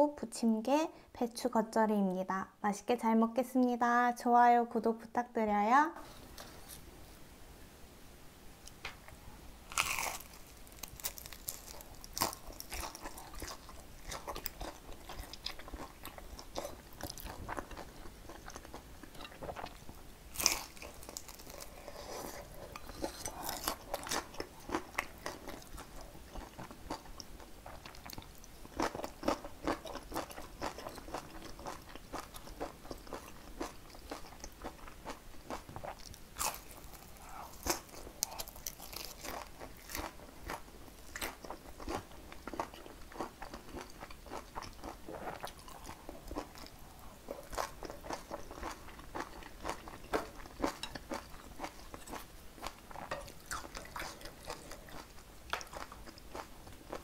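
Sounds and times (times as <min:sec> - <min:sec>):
crunching bites and chewing: 0:09.7 - 0:46.8, 0:47.4 - 0:57.0.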